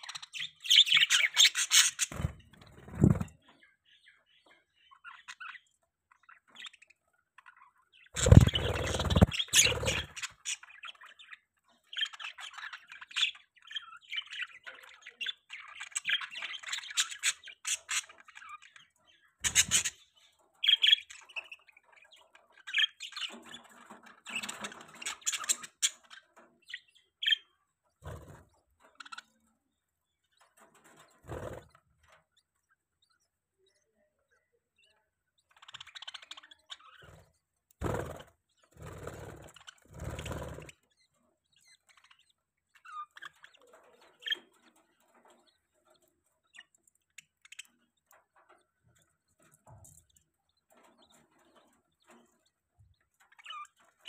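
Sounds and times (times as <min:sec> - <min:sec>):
baby budgies chirping: 0:00.0 - 0:54.0.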